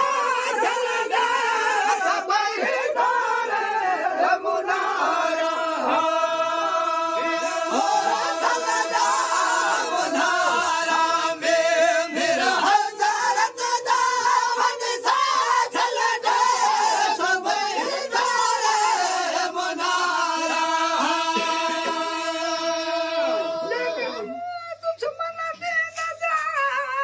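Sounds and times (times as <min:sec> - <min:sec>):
men chanting unaccompanied: 0:00.0 - 0:24.6.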